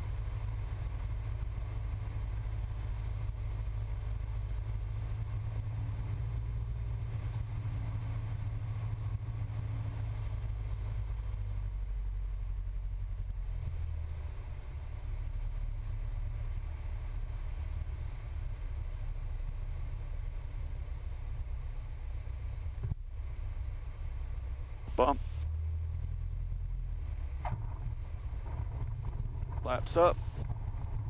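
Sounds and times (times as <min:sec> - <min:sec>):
piston engine and propeller droning: 0:00.0 - 0:31.0.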